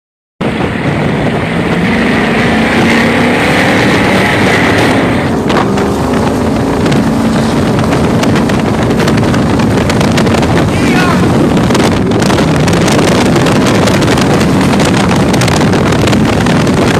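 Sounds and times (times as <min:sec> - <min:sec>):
powerboat engine running: 0:00.4 - 0:16.9
wind noise on microphone: 0:00.4 - 0:16.9.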